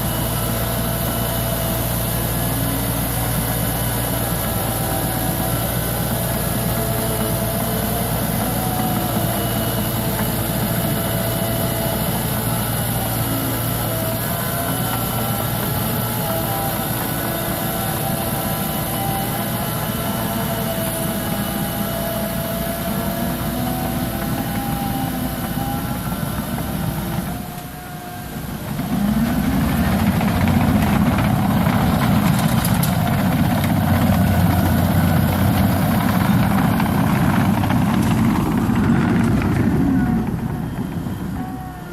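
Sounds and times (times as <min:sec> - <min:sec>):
diesel engine running: 0:00.0 - 0:41.9
wavering whine: 0:00.0 - 0:41.9.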